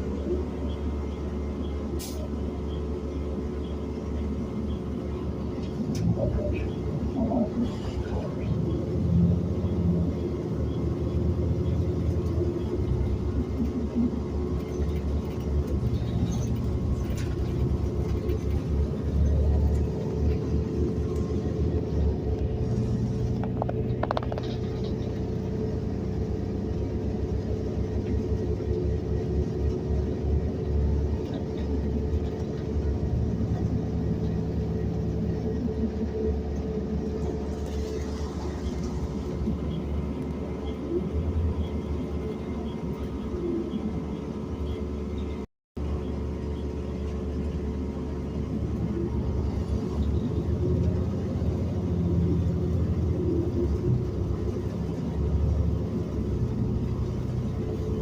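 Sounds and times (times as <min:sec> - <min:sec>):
bus engine and road rumble: 0:00.0 - 0:58.0
constant hum: 0:00.0 - 0:58.0.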